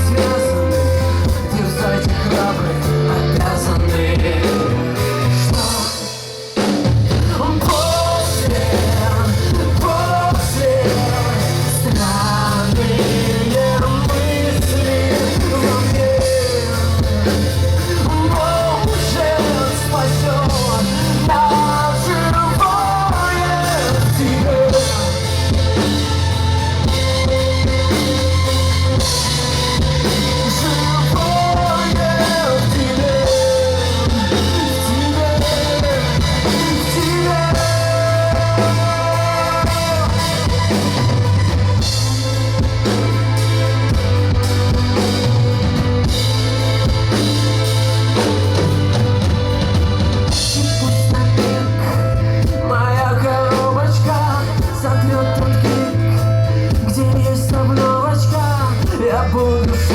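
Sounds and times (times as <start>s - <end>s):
drums: 0.0s - 59.9s
person singing lead vocal: 0.0s - 59.9s
rock band playing live: 0.0s - 59.9s.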